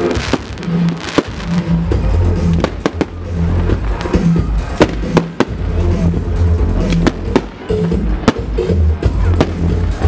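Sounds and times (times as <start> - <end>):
fireworks bursting: 0.0 - 6.1, 6.8 - 10.0
music with heavy bass: 0.0 - 10.0.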